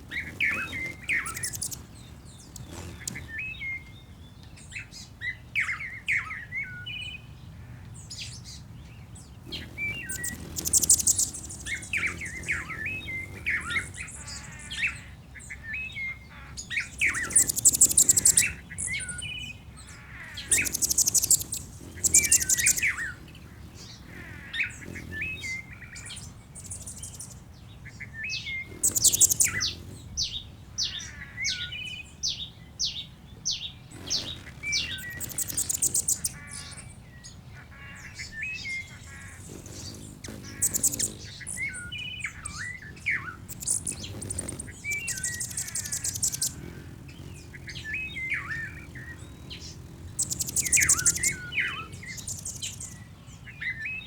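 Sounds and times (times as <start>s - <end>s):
high buzzy bird trill: 0.0s - 4.0s, 9.4s - 32.3s, 33.5s - 53.9s
birds chirping and whistling: 0.0s - 7.4s, 8.1s - 54.0s.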